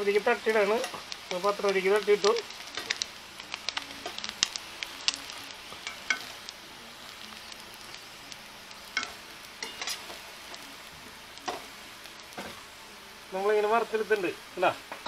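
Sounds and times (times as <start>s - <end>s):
oil sizzling in frying pan: 0.0s - 15.0s.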